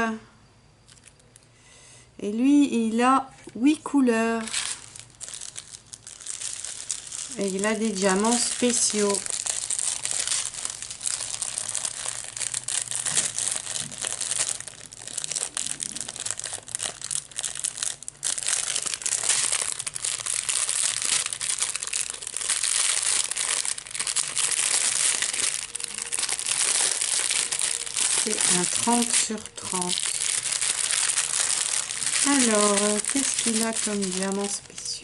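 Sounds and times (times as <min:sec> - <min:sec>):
plastic packaging crinkling: 0:00.8 - 0:01.5, 0:04.2 - 0:35.0.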